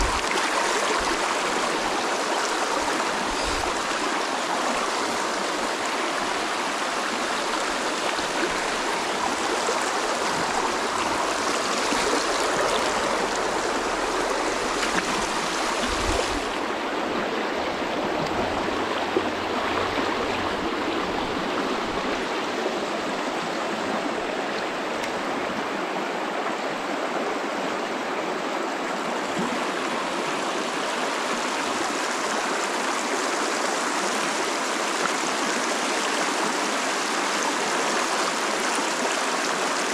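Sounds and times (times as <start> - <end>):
creek rushing over stones: 0.0 - 39.9.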